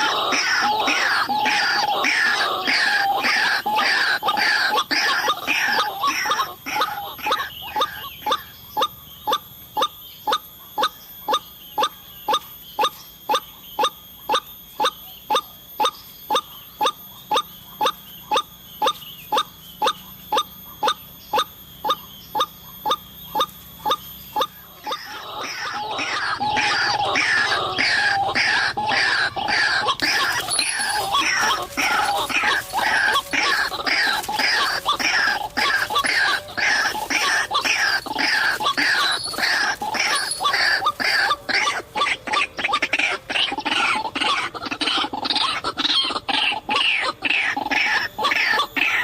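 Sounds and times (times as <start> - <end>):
waterhen calling: 0.0 - 11.9, 12.8 - 49.0.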